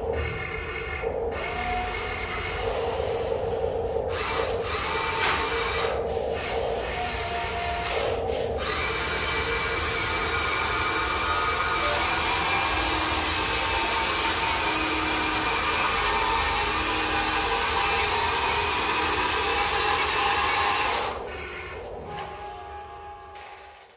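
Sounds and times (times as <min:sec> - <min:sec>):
toy electric motors whining: 0:00.0 - 0:03.4, 0:04.1 - 0:23.9.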